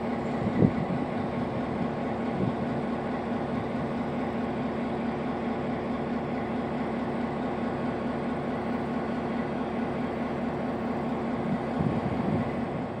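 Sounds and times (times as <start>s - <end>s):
locomotive diesel engine drone: 0.0s - 13.0s.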